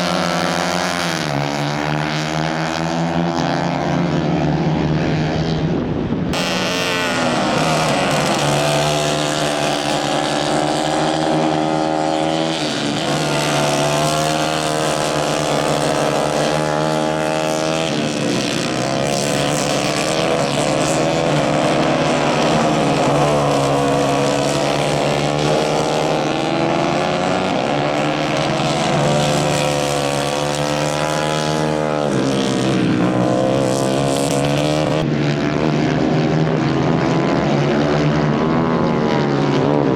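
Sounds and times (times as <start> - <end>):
racing kart engines revving: 0.0 - 39.9.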